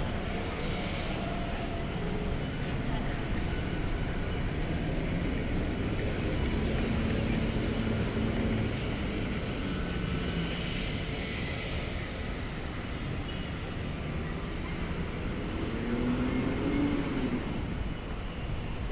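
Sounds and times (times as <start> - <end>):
city traffic rumble: 0.0 - 18.9
vehicle engine humming: 0.0 - 18.9.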